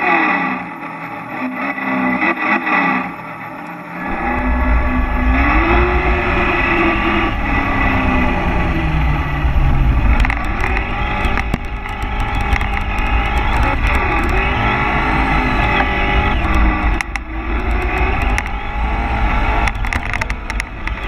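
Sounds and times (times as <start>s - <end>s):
sharp clicks and ticks: 3.6s - 21.0s
heavy low rumble: 4.0s - 21.0s.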